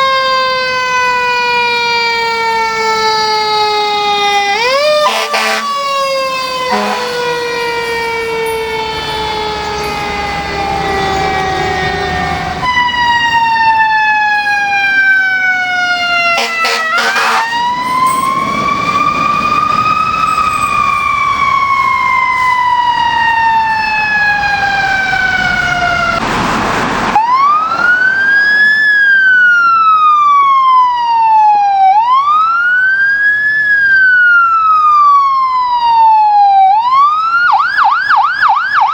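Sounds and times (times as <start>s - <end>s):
wail siren: 0.0s - 26.4s, 27.1s - 38.9s
fire truck sirens: 0.0s - 38.9s.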